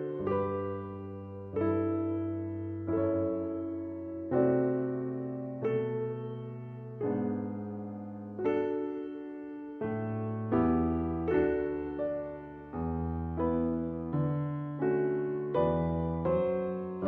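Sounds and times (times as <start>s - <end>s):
slow electric piano chords: 0.0s - 17.0s.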